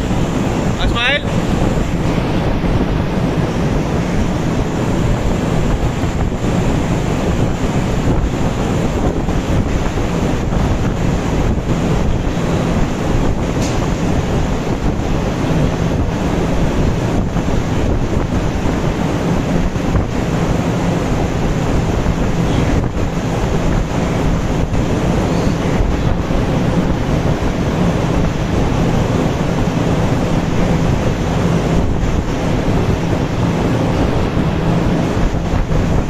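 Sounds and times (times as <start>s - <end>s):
ventilation fans rushing: 0.0s - 36.0s.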